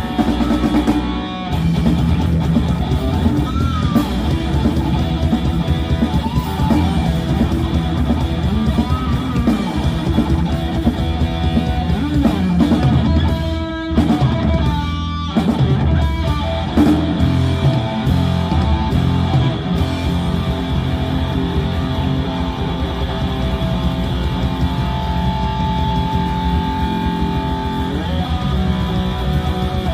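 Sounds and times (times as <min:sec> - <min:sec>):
bass guitar: 0:00.0 - 0:29.9
distorted electric guitars: 0:00.0 - 0:29.9
drum kit: 0:00.0 - 0:29.9.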